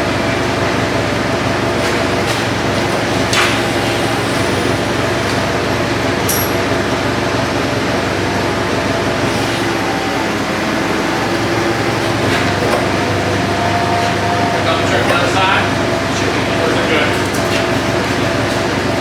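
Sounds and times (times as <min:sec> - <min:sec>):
machine humming drone: 0:00.0 - 0:19.0.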